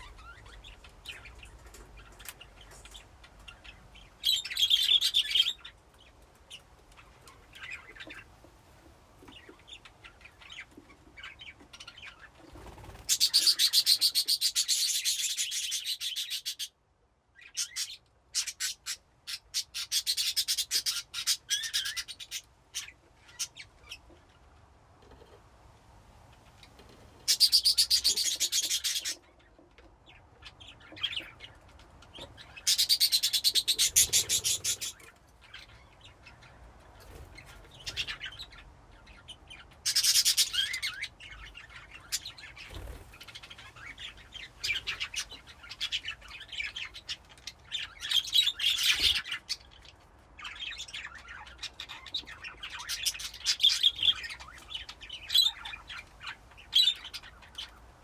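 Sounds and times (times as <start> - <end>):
budgerigars chirping and chattering: 0.0 - 16.8, 17.4 - 24.5, 26.3 - 58.0.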